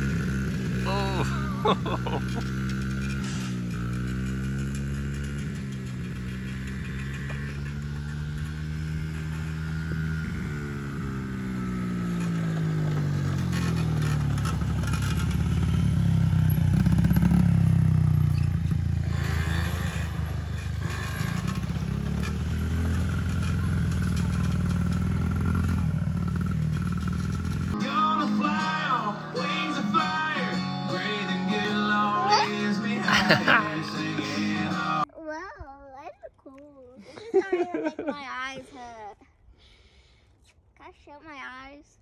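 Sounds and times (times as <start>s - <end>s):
small vehicle engine running: 0.0s - 35.1s.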